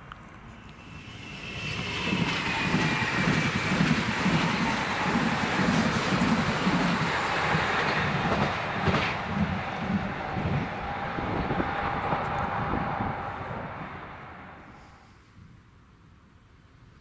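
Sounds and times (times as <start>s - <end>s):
train rumbling past: 0.5s - 15.3s.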